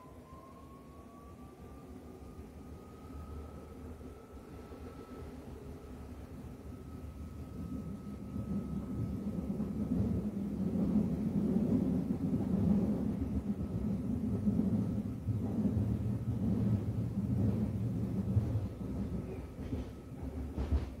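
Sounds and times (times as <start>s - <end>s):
train interior low rumble: 0.0s - 21.0s.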